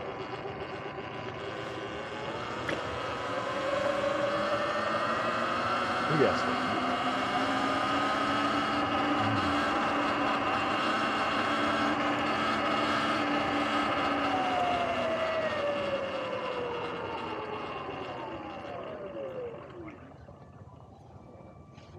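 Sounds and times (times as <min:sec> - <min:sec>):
electric motor whine: 0:00.0 - 0:21.9.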